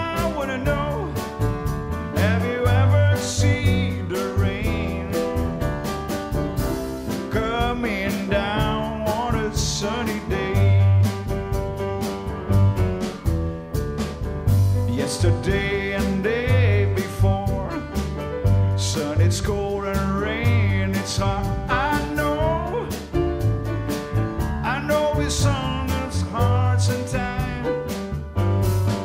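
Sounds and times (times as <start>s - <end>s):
drum kit beat: 0.0s - 29.0s
piano: 0.0s - 29.0s
upright double bass: 0.0s - 29.0s.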